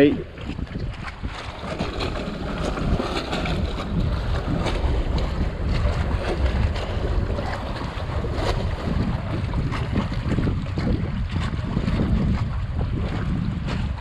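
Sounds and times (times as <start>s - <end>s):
water lapping against hull: 0.0s - 14.0s
wind buffeting microphone: 0.0s - 14.0s.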